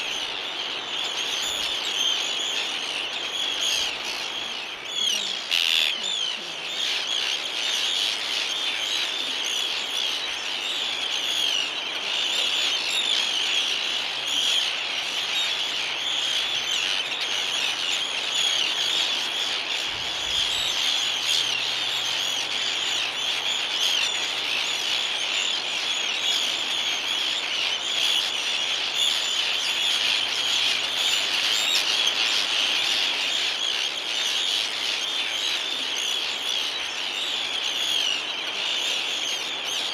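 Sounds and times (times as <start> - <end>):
terns calling: 0.0 - 39.9.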